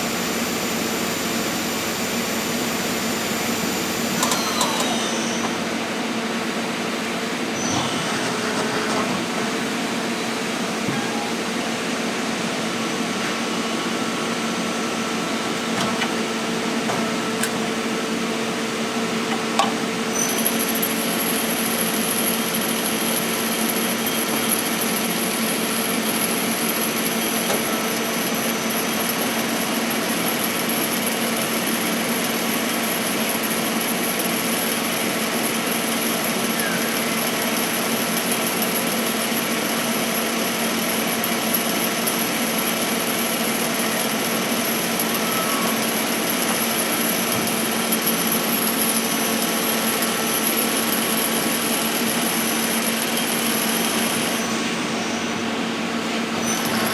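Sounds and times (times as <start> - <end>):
high-pitched machine whine: 0.0 - 15.7, 16.7 - 56.9
lathe machine hum: 0.0 - 56.9.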